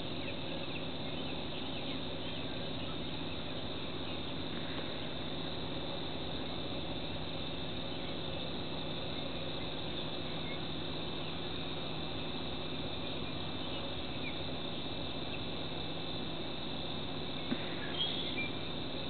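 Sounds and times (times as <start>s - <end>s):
insects buzzing: 0.0s - 19.0s
low steady hum: 0.0s - 19.0s.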